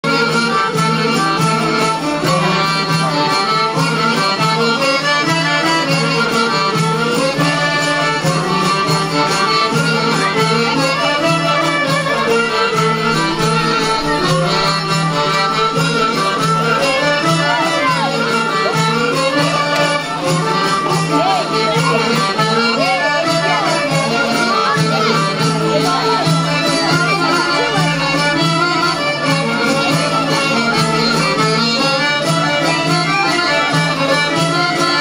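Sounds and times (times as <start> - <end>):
folk ensemble playing: 0.0 - 35.0.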